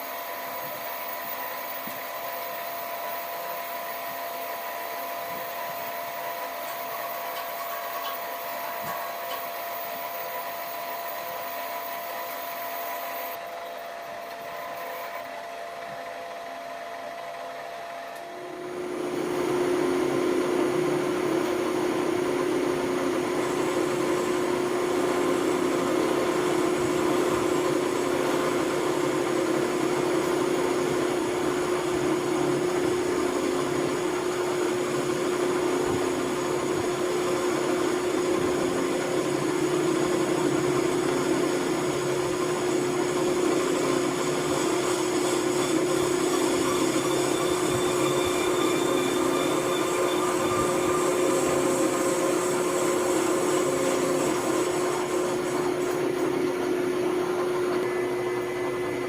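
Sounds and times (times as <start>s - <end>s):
low steady machine tone: 0.0s - 59.0s
machine motor humming: 0.3s - 59.0s.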